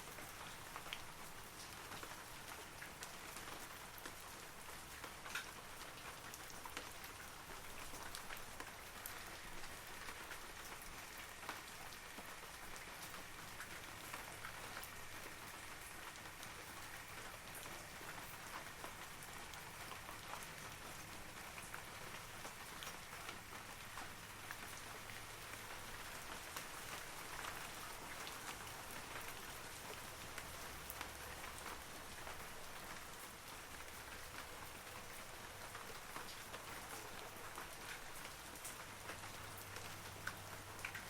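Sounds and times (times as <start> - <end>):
rain falling on trees: 0.0 - 41.0.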